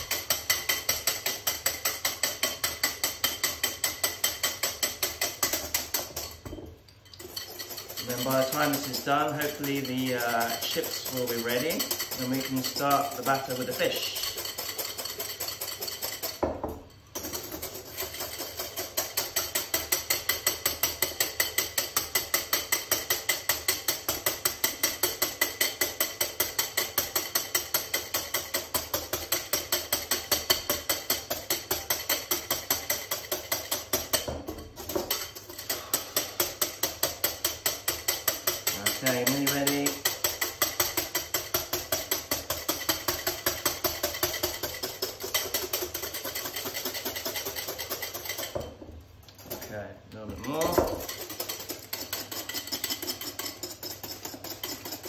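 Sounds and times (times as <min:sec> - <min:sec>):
whisk beating in a bowl: 0:00.0 - 0:49.8, 0:50.4 - 0:55.0.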